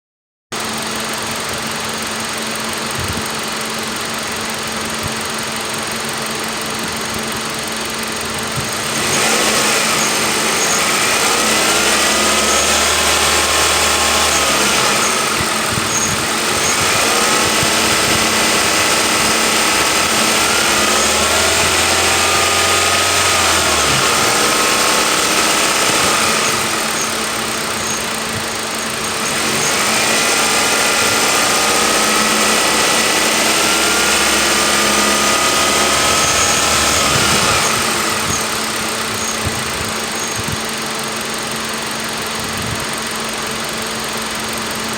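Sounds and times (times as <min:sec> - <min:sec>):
whining tones: 0:02.8 - 0:44.9.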